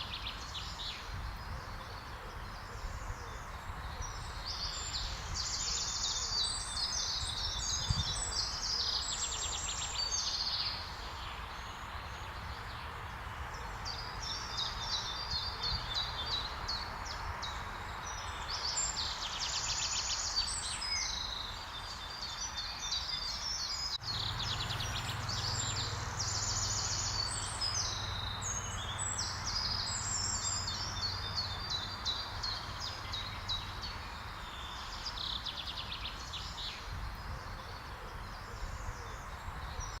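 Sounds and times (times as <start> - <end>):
outdoor background hiss: 0.0 - 40.0
songbirds singing: 0.0 - 40.0.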